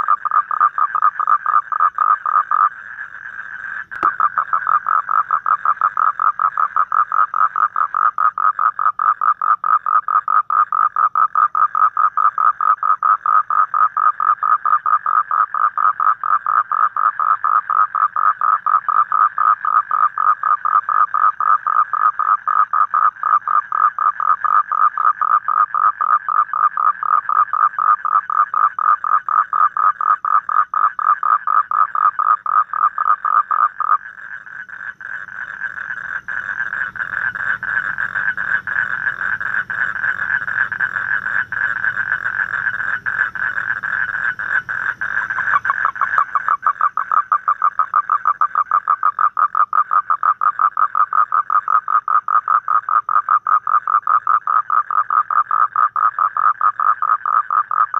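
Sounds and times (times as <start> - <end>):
toad trilling: 0.0 - 57.9.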